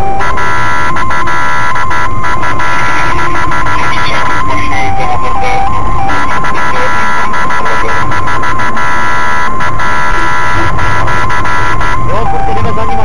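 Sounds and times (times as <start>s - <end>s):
police siren: 0.0s - 13.0s.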